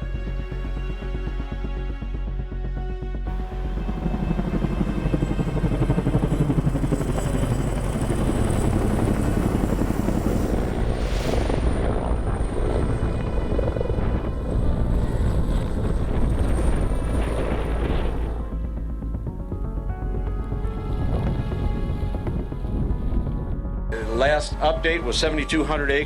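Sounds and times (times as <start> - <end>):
helicopter rotor beating: 3.3 - 26.0.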